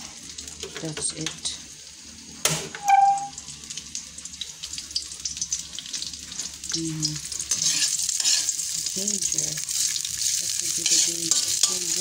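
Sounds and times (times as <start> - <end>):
ginger sizzling in hot oil: 0.0 - 12.0.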